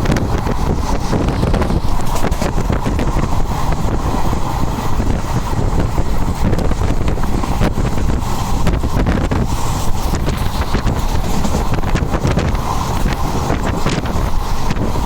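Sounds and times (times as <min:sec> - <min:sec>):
moving train rumble: 0:00.0 - 0:15.0
wind buffeting microphone: 0:00.0 - 0:15.0.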